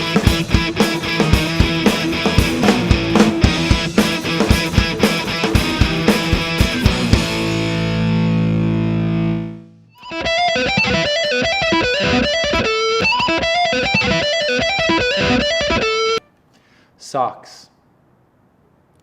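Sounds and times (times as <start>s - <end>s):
overdriven electric guitar: 0.0s - 16.3s.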